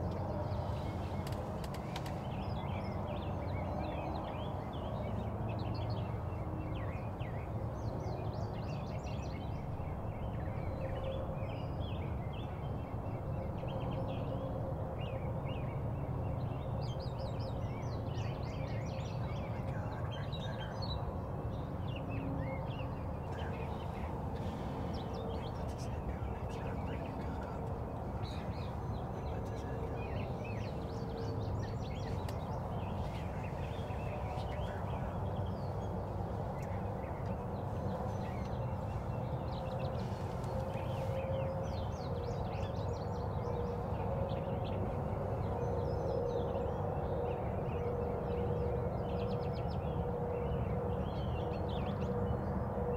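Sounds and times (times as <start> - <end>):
low background noise: 0.0 - 52.9
songbirds chirping and trilling: 0.0 - 52.9.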